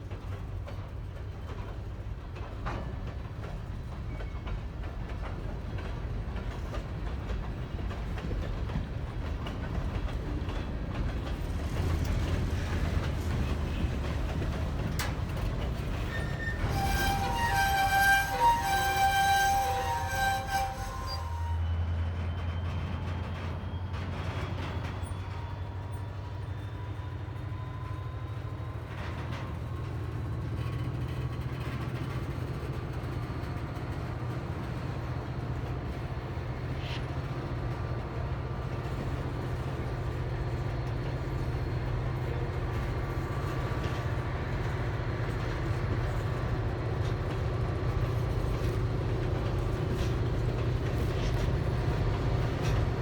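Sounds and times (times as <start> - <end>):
diesel locomotive rumble: 0.0 - 53.0.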